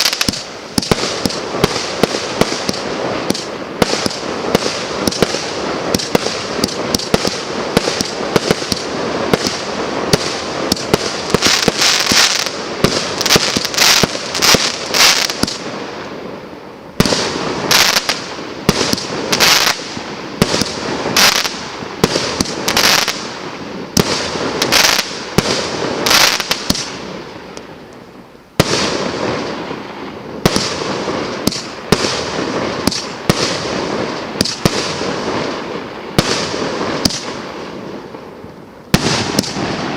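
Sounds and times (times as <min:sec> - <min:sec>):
firework battery firing: 0:00.0 - 0:39.9.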